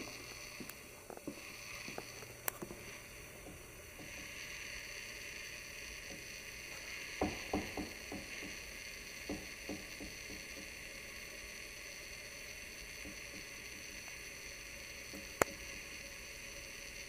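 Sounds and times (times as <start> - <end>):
room tone hiss: 0.0 - 17.0.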